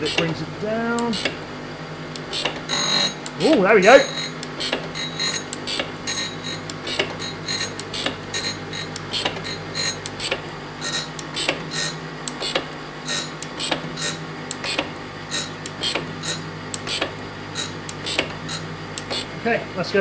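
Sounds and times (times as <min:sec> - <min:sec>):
sharp metallic clicks: 0:00.0 - 0:00.4, 0:01.0 - 0:01.4, 0:02.1 - 0:19.3
grinder machine humming: 0:00.0 - 0:20.0.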